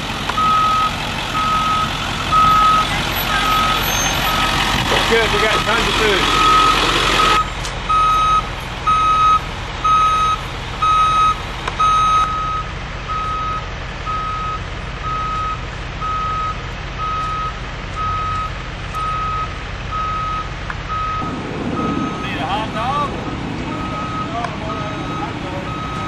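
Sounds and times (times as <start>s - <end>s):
low engine rumble: 0.0s - 26.0s
reversing alarm beeping: 0.3s - 4.6s, 5.6s - 26.0s.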